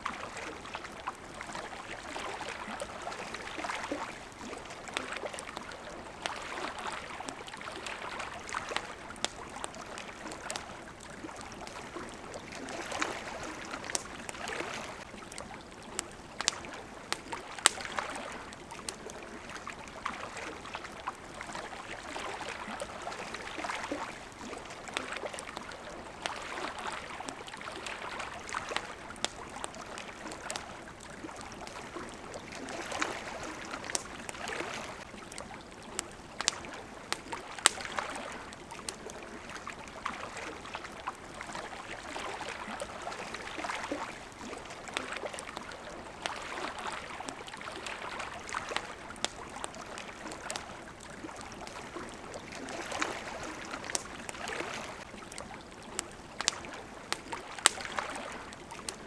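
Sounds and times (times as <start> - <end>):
campfire crackling: 0.0 - 59.0
water lapping at shore: 0.0 - 59.0.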